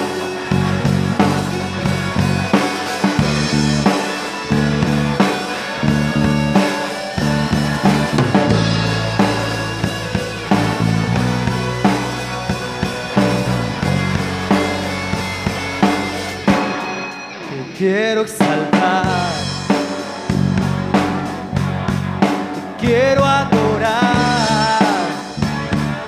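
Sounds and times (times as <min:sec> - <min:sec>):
electric bass: 0:00.0 - 0:18.0, 0:18.7 - 0:26.0
drum kit beat: 0:00.0 - 0:26.0
electric guitar: 0:00.0 - 0:26.0.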